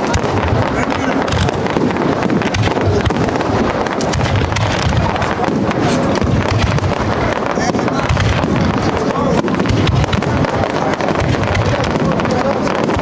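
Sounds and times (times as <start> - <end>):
firework pops and crackles: 0.0 - 13.0
fireworks rumbling: 0.0 - 13.0.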